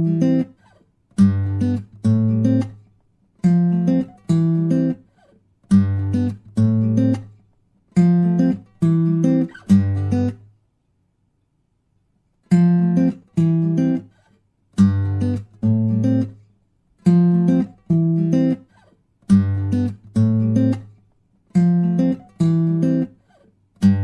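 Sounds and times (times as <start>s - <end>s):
acoustic guitar strummed chords: 0.0s - 7.4s, 8.0s - 10.4s, 12.5s - 16.4s, 17.0s - 24.0s.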